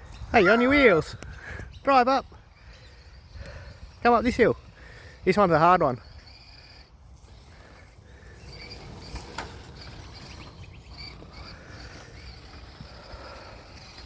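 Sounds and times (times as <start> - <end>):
high wildlife chirps: 0.0 - 14.0.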